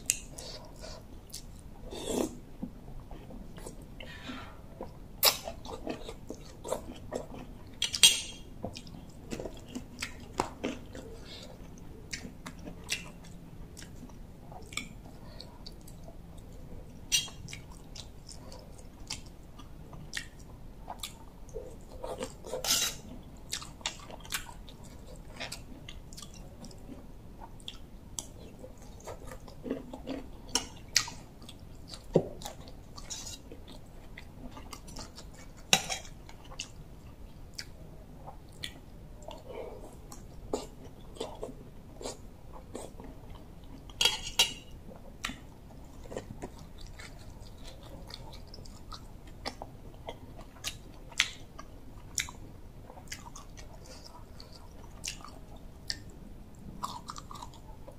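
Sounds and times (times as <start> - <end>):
person chewing: 0.0 - 2.4, 3.2 - 56.1, 56.8 - 57.9.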